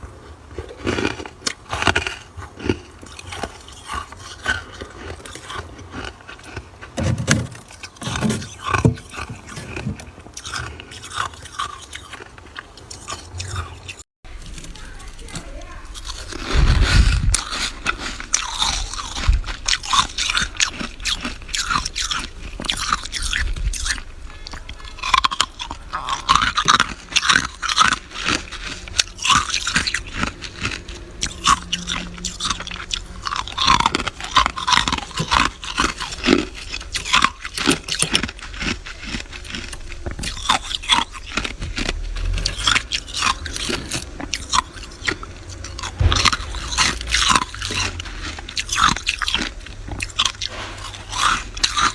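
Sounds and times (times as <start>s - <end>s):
chewing crunchy frost: 0.0s - 51.9s.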